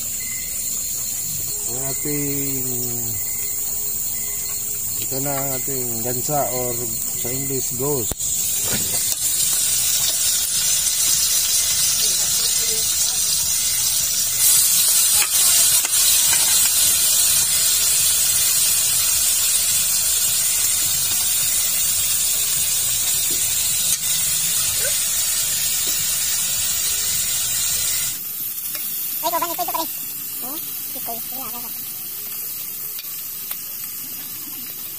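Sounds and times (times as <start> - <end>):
meat sizzling in a pan: 0.0 - 34.9.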